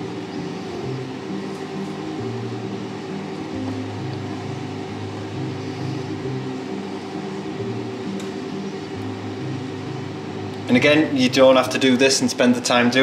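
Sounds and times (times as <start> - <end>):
electrical hum from hob: 0.0 - 13.0.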